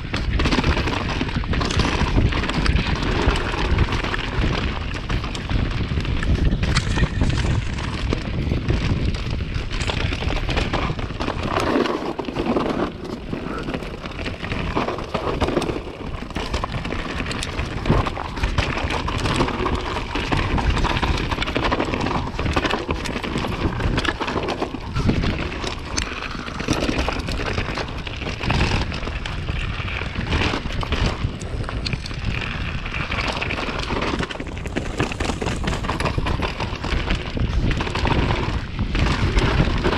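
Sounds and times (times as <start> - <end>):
bike clattering: 0.0 - 39.9
tyres rolling on loose stones: 0.0 - 39.9
wind buffeting microphone: 0.0 - 39.9.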